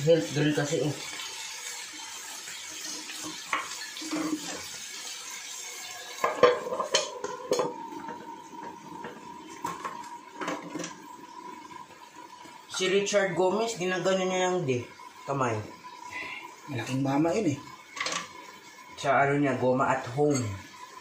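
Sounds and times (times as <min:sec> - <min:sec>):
fish sizzling on grill pan: 0:00.0 - 0:21.0.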